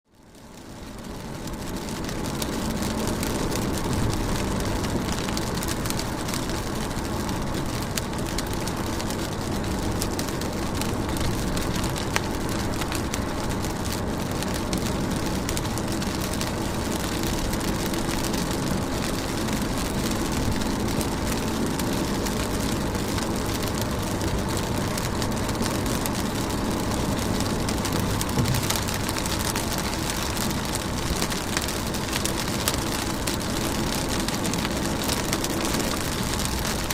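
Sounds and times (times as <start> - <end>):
steady rain falling: 0.1 - 36.9.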